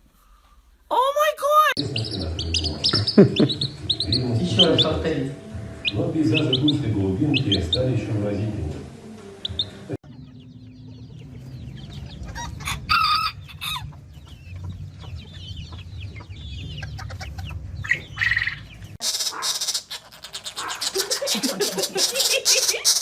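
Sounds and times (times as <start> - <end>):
birds clucking and chirping: 1.6 - 23.0.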